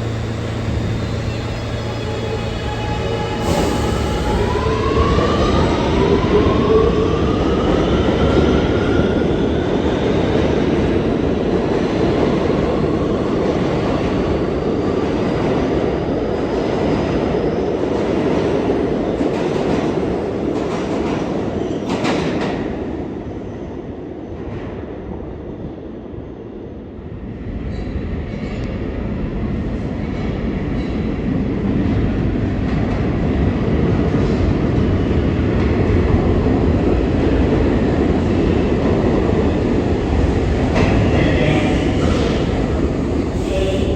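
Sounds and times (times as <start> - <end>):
loud train clatter: 0.0 - 25.7, 27.1 - 43.9
train wheels rumbling on rails: 0.0 - 26.3, 27.0 - 43.9
subway train motors whining: 0.0 - 43.9.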